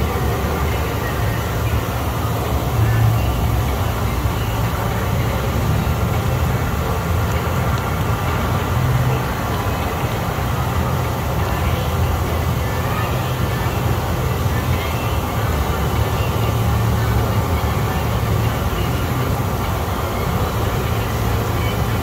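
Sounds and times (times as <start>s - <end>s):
jet blower rumble: 0.0s - 22.0s.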